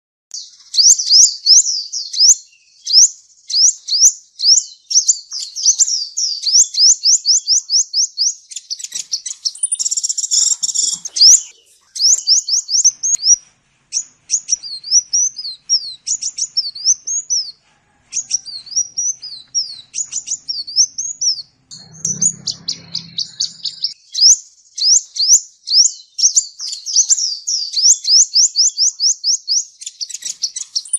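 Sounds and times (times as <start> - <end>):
small bird chirping: 0.3 - 30.9.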